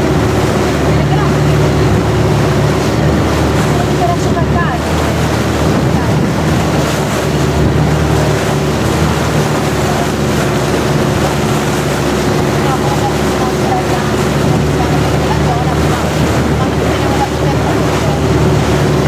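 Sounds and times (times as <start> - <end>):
boat engine running: 0.0 - 19.0
water rushing past hull: 0.0 - 19.0
wind on microphone: 0.0 - 19.0.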